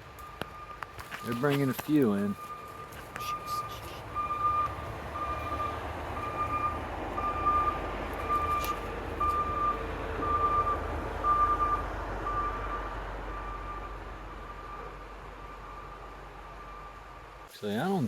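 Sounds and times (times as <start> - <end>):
engine rumble: 0.0 - 17.5
backup alarm beeping: 0.2 - 17.2.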